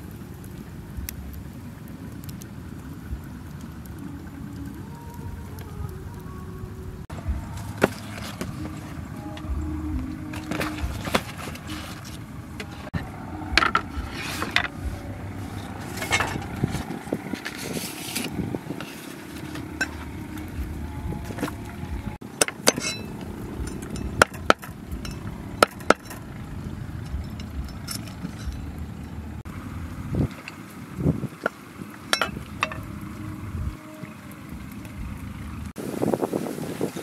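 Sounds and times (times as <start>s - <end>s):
leaf rustling: 0.0s - 37.0s.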